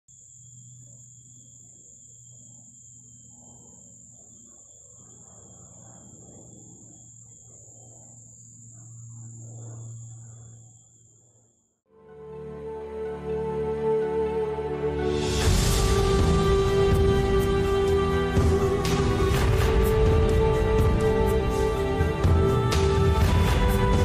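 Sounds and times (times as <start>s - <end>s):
airplane drone overhead: 0.1s - 24.0s
high buzz of insects: 0.1s - 24.0s.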